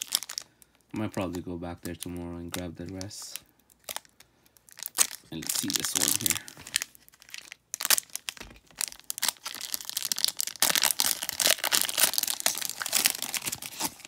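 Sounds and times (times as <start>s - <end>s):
foil wrapper crinkling and tearing: 0.0s - 14.0s.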